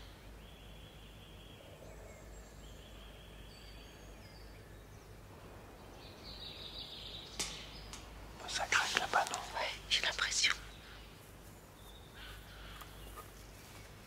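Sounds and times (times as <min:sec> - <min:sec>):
small birds calling: 0:00.0 - 0:14.0.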